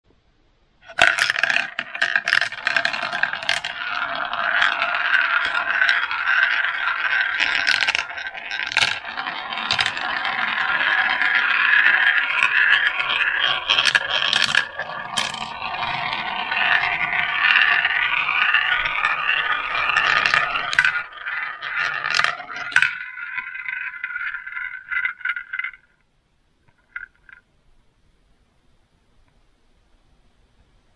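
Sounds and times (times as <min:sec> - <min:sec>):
marbles clicking on track: 0:00.8 - 0:26.0, 0:26.7 - 0:27.5
marbles rolling on plastic track: 0:00.8 - 0:26.0, 0:26.7 - 0:27.5.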